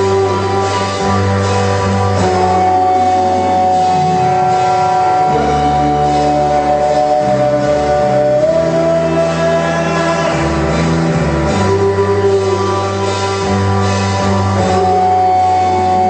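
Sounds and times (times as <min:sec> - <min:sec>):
bass guitar line: 0:00.0 - 0:16.0
electric guitar chords: 0:00.0 - 0:16.0
live rock band playing: 0:00.0 - 0:16.0
long held high note: 0:00.0 - 0:16.0.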